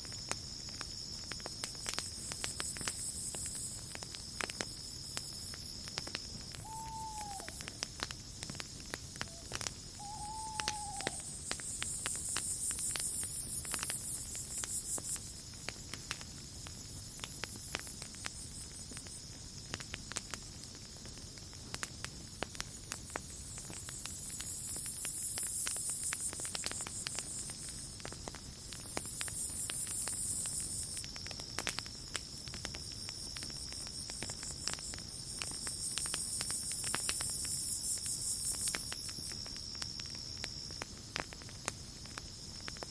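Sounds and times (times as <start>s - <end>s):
campfire crackling and popping: 0.0s - 42.9s
crickets trilling: 0.0s - 42.9s.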